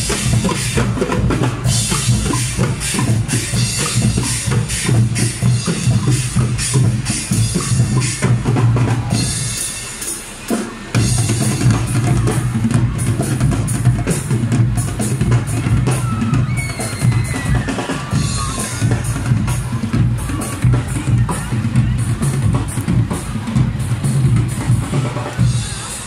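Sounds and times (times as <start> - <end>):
carnival brass band playing: 0.0 - 26.0
heavy drums and bass drum: 0.0 - 26.0.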